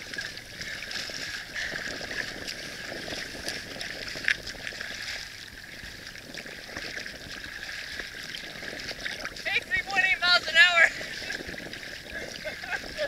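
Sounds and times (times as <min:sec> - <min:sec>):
small water splashes: 0:00.0 - 0:13.0
water lapping and trickling: 0:00.0 - 0:13.0.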